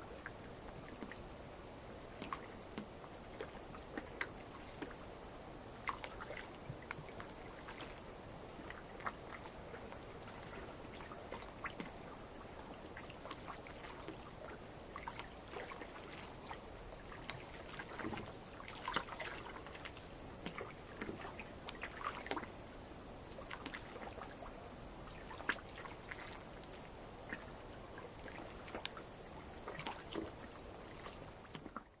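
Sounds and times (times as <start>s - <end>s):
night insects chorus: 0.0s - 32.0s
waves lapping against rock: 5.7s - 22.7s, 23.3s - 32.0s.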